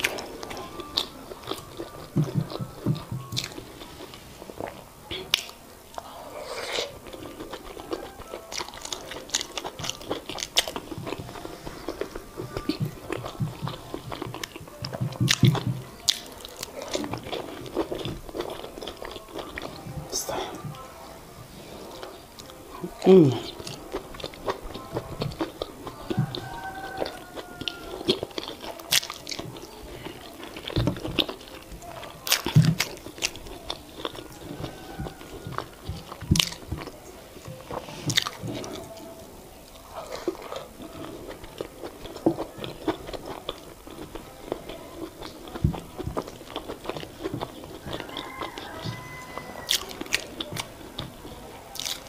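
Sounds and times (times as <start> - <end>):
close chewing and mouth sounds: 0.0 - 52.0.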